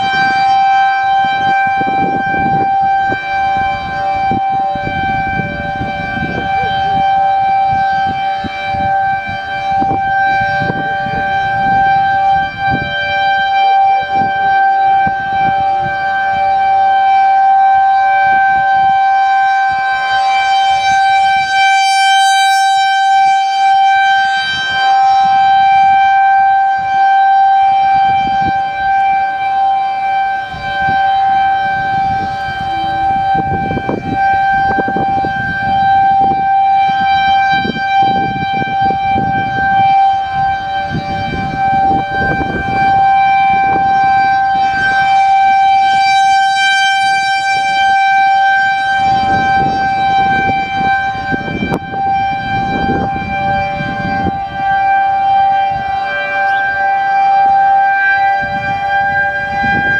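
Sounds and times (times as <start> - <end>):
siren steady tone: 0.0 - 59.9
wind rumbling on microphone: 0.0 - 59.9.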